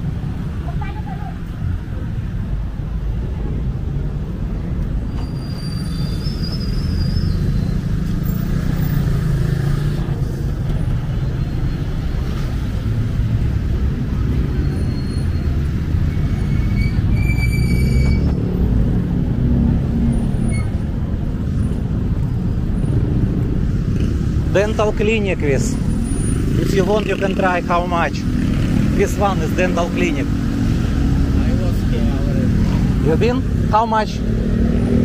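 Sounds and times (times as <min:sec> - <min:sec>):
passing vehicle engines rumbling: 0:00.0 - 0:35.0.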